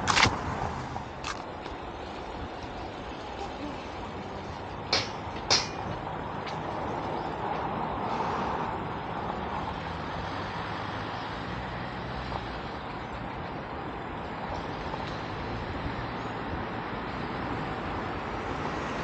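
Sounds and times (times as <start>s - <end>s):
road noise: 0.0s - 19.0s
traffic engine hum: 0.0s - 19.0s.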